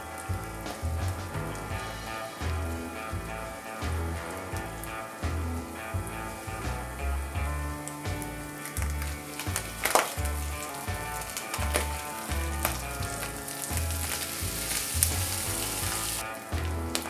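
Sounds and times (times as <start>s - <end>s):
background music beat: 0.0s - 17.0s
food sizzling in a pan: 0.0s - 17.0s.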